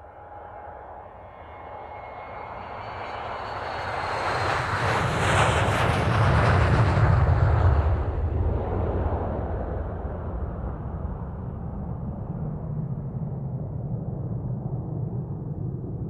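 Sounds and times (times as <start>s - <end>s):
jet airplane roar: 0.0s - 13.2s.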